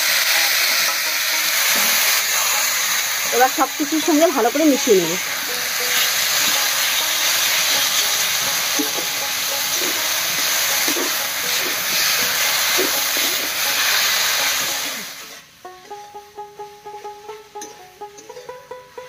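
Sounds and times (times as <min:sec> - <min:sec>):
greens frying in hot oil: 0:00.0 - 0:15.5.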